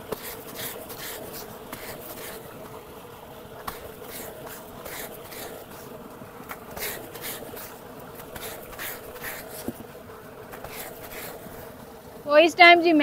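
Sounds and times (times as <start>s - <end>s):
water splashing hisses: 0.0s - 12.2s
pump motor humming: 0.0s - 13.0s
water gushing into a tank: 0.0s - 13.0s.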